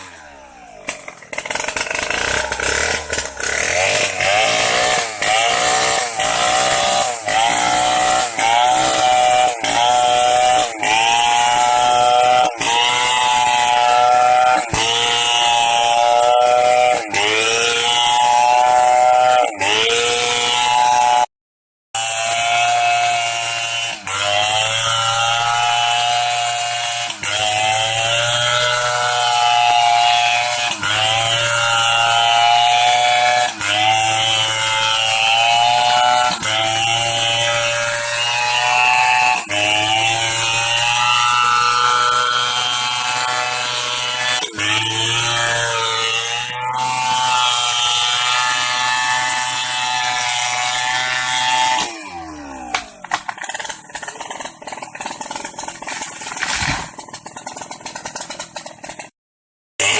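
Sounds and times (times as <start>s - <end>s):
chainsaw cutting log: 0.0s - 21.3s, 22.0s - 59.2s.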